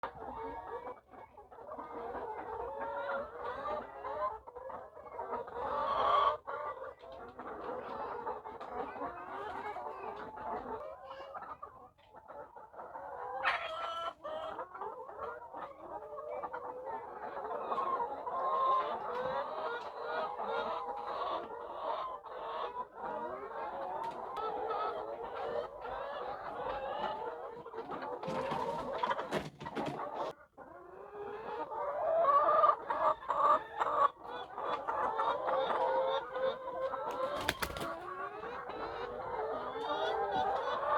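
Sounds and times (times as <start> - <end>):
hens clucking: 0.0 - 40.9.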